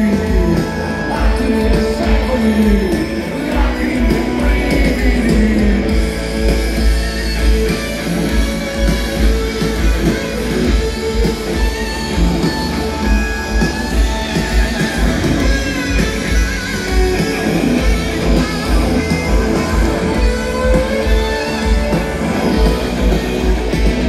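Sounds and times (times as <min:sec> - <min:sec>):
guitars: 0:00.0 - 0:24.0
steady drum beat: 0:00.0 - 0:24.0.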